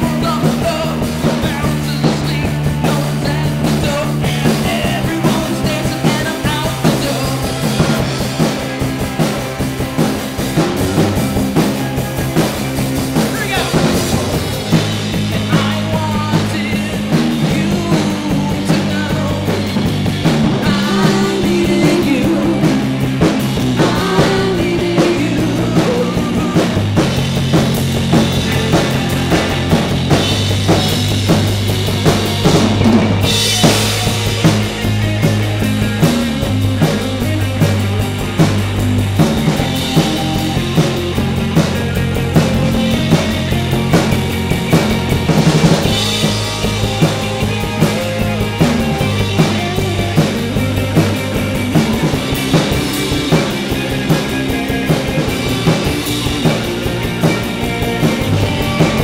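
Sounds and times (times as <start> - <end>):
bass notes: 0.0 - 59.0
drum kit beat: 0.0 - 59.0
electric guitar: 0.0 - 59.0.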